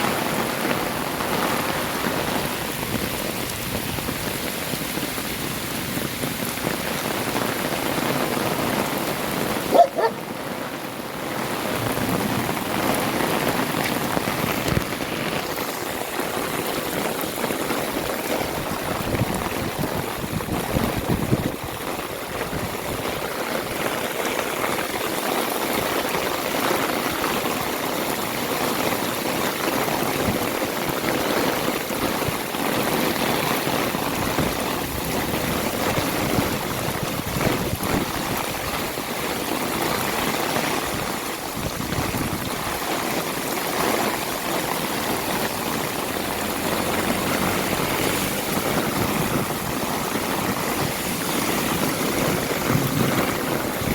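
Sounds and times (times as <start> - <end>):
heavy rain hissing: 0.0 - 53.9
water running and splashing: 0.0 - 53.9.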